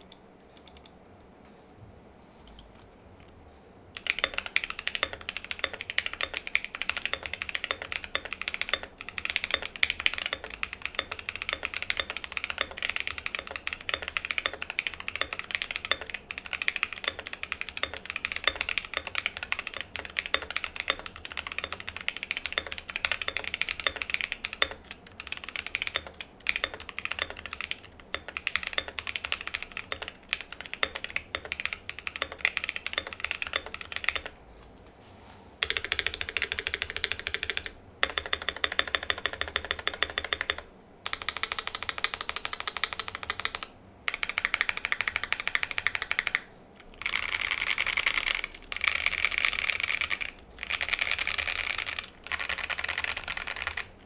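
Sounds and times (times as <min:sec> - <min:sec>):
mechanical keyboard typing: 0:00.0 - 0:01.0, 0:03.9 - 0:34.4, 0:35.6 - 0:54.0.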